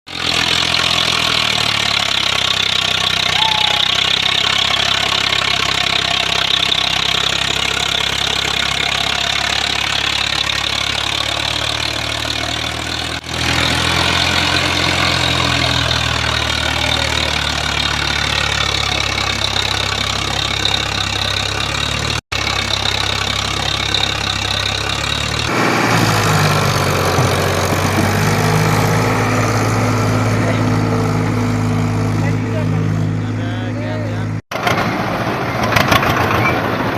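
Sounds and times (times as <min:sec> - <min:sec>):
diesel tractor engine running: 0:00.1 - 0:36.9.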